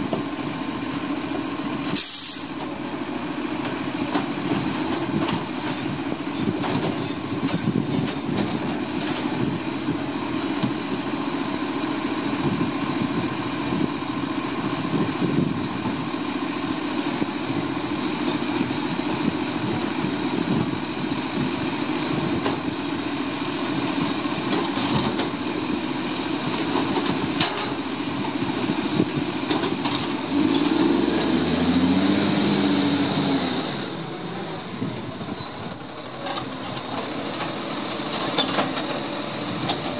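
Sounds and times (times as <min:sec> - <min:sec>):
garbage truck diesel engine: 0:00.0 - 0:39.9
hydraulic arm high whine: 0:00.0 - 0:39.9.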